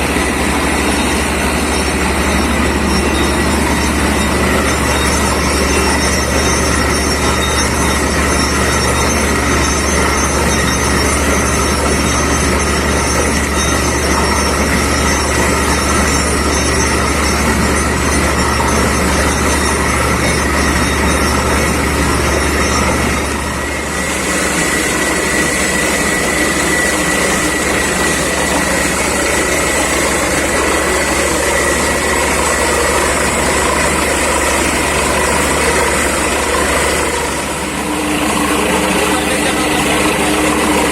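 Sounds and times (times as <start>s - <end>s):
drilling rig droning: 0.0s - 40.9s.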